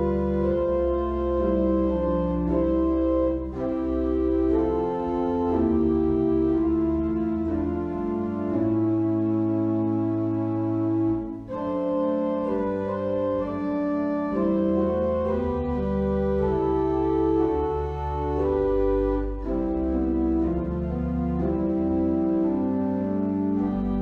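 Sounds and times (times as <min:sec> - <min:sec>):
organ playing a slow hymn: 0:00.0 - 0:24.0.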